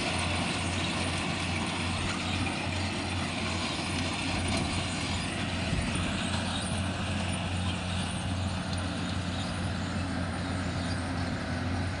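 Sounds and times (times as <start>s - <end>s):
harvester engine hum: 0.0s - 12.0s
machinery working noise: 0.0s - 12.0s.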